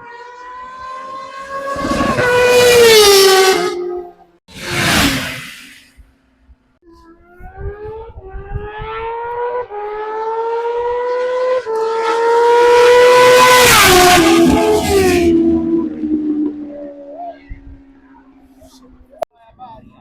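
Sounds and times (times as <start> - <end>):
motorcycle engine accelerating: 0.0 - 5.6, 7.0 - 19.2.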